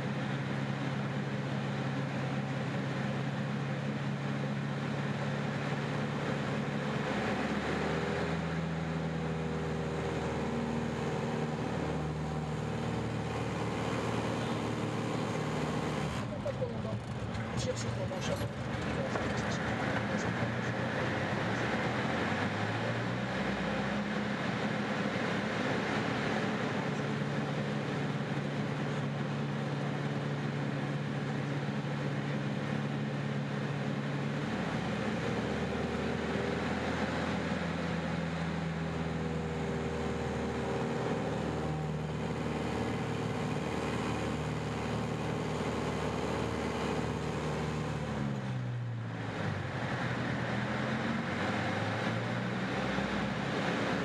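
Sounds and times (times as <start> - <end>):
propeller plane engine: 0.0 - 54.0.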